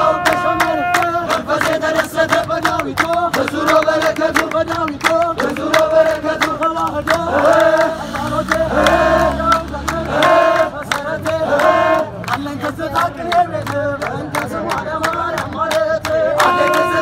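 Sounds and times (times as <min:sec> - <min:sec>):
men chanting together: 0:00.0 - 0:17.0.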